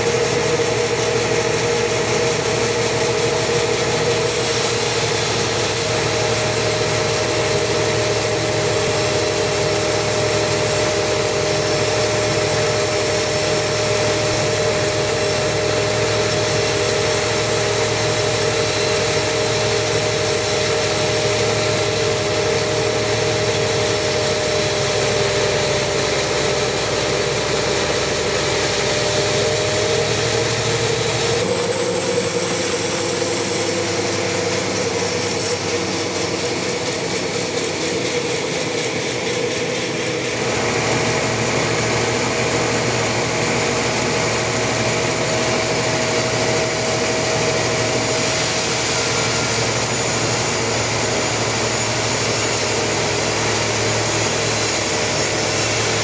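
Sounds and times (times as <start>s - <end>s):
band saw blade whining: 0.0s - 56.0s
sawmill machine noise: 0.0s - 56.0s.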